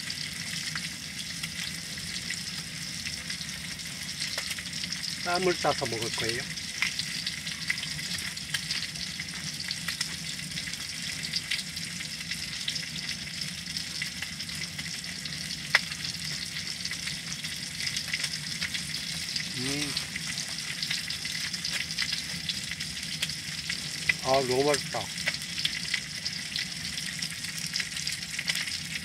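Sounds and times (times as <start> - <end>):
meat sizzling on a grill: 0.0 - 29.0.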